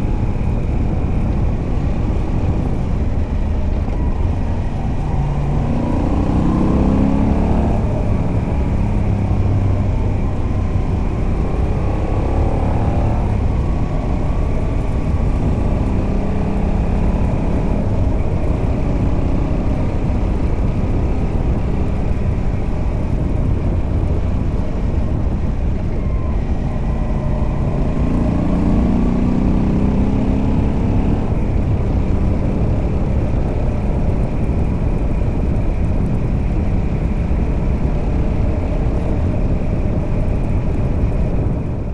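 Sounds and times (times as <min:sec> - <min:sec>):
v-twin motorcycle engine: 0:00.0 - 0:41.9
wind noise: 0:00.0 - 0:41.9.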